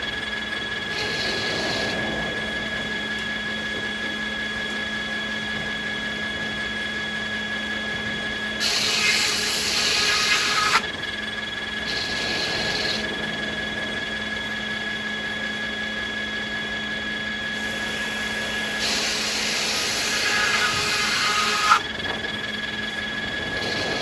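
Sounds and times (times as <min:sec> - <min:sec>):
sawmill machinery hum and whine: 0:00.0 - 0:24.0.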